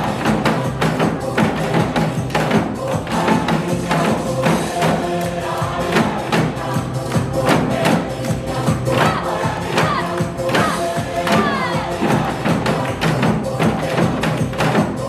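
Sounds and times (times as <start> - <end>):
recorded backing music: 0.0 - 15.0.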